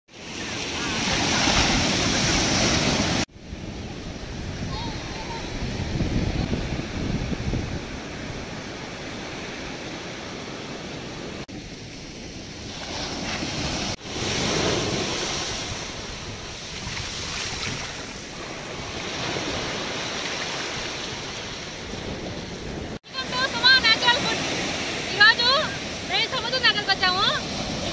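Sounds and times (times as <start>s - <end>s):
waves breaking on sand: 0.1s - 27.9s.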